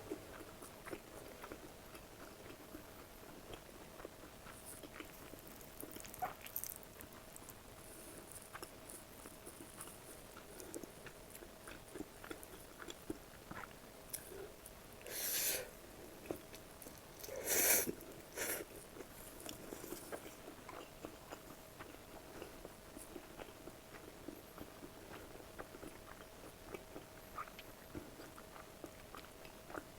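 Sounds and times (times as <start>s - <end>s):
chewing with wet mouth clicks: 0.1s - 14.8s, 16.2s - 29.9s.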